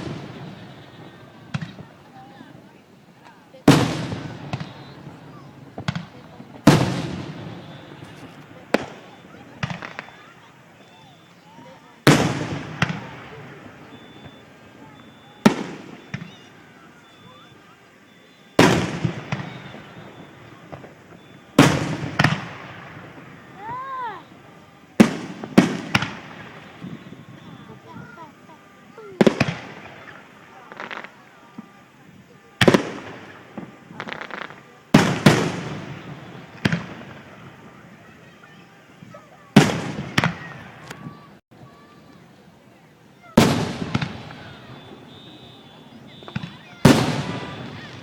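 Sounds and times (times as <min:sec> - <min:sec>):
rolling echo: 0:00.0 - 0:42.5, 0:43.2 - 0:48.0
fireworks bursting with rumble: 0:00.0 - 0:48.0
small firework crack: 0:00.0 - 0:48.0.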